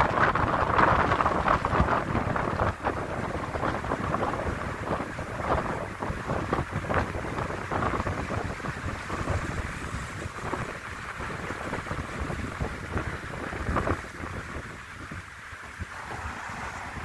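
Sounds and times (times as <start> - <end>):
road traffic rumble: 0.0 - 17.0
wind buffeting microphone: 0.0 - 17.0.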